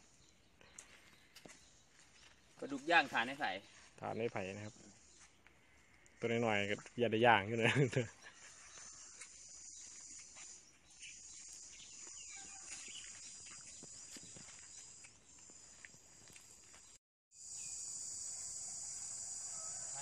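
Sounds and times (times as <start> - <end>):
high-pitched insect chorus: 1.9 - 20.0.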